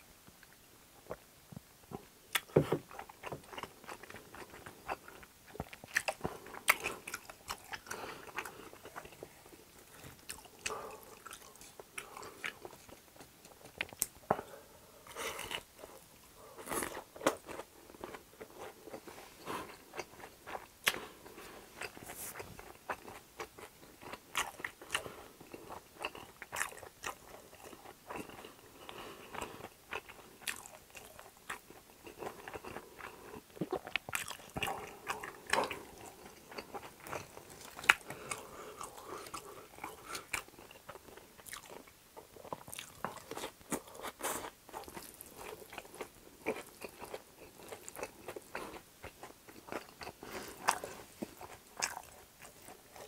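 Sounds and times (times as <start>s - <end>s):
person chewing food: 1.9s - 53.0s.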